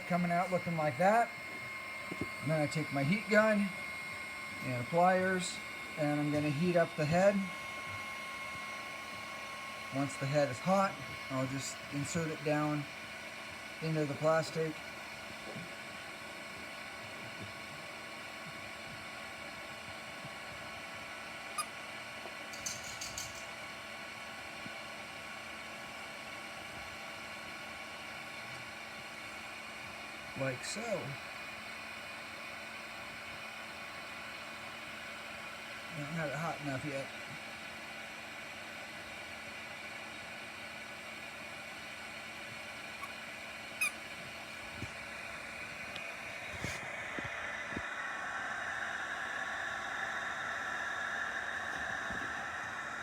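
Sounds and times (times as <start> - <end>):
heat gun blowing: 0.0 - 29.9, 37.4 - 53.0.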